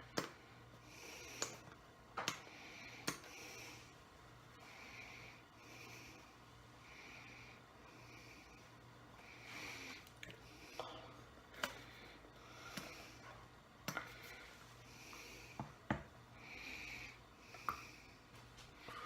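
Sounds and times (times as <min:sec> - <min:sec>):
soft breathing through nose: 0:00.7 - 0:01.8, 0:02.4 - 0:19.0.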